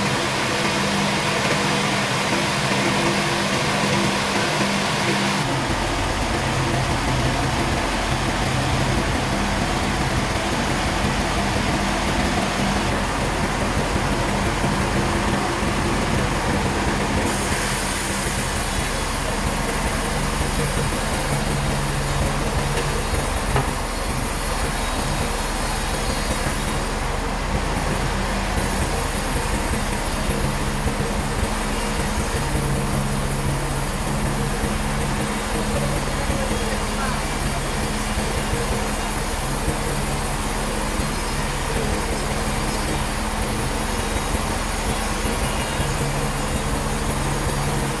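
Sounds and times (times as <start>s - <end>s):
sawmill machinery running: 0.0s - 48.0s.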